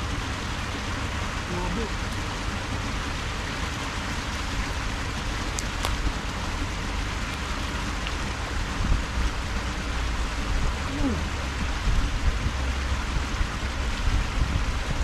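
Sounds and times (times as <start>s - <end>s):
low rumble: 0.0s - 15.0s
rushing water hiss: 0.0s - 15.0s.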